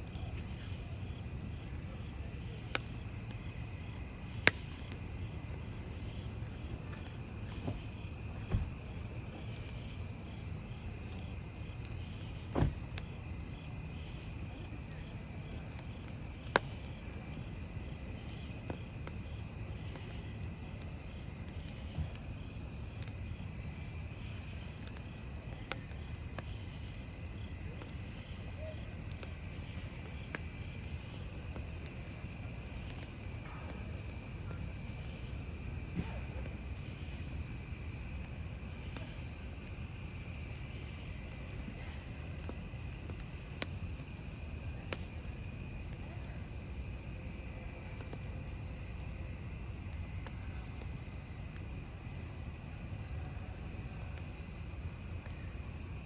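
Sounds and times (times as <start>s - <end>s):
logs crackling and popping: 0.0s - 55.8s
crickets trilling: 0.0s - 56.0s
wood fire rumbling: 0.0s - 56.0s.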